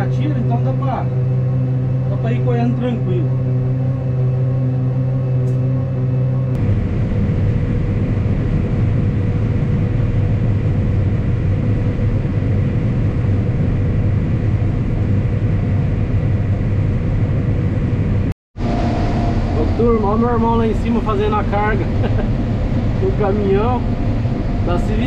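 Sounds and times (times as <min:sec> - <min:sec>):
combine harvester drone: 0:00.0 - 0:25.0
faint steady whine: 0:00.0 - 0:25.0.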